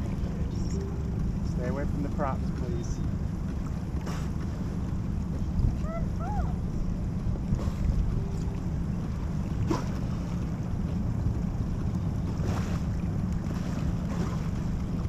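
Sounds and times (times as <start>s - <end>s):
water lapping: 0.0s - 15.0s
wind buffeting microphone: 0.0s - 15.0s.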